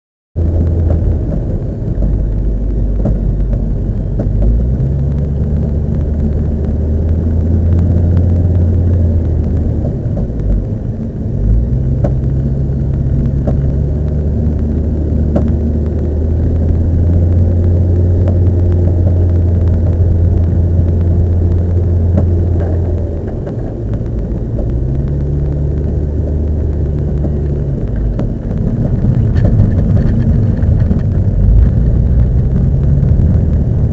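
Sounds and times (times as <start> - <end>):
car rumble while driving: 0.4 - 33.9.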